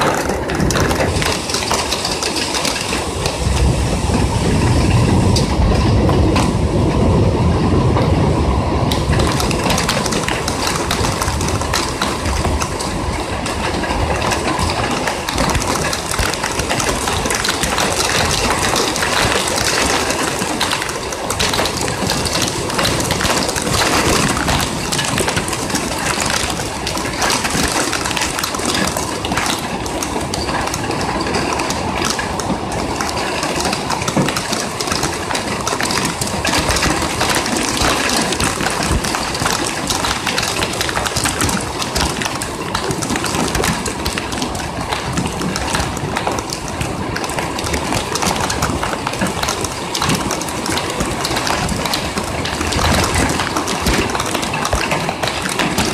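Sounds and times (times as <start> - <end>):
rain pattering on window ledge: 0.0 - 55.9.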